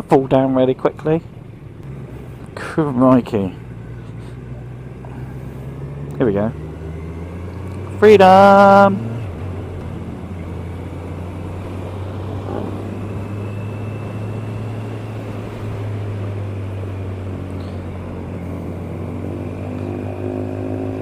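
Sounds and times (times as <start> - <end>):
motorcycle engine humming: 0.0 - 21.0.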